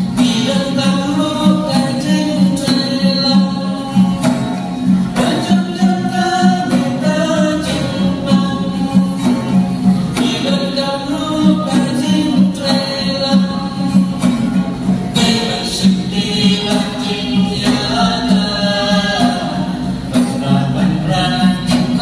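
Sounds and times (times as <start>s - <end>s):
drum beat: 0.0s - 22.0s
group of people singing: 0.0s - 22.0s
plucked string instruments: 0.0s - 22.0s.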